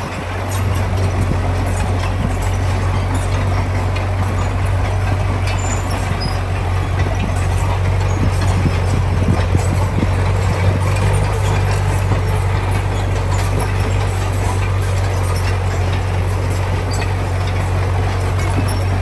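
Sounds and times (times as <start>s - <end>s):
faint rattling: 0.0s - 19.0s
heavy diesel engine running: 0.0s - 19.0s.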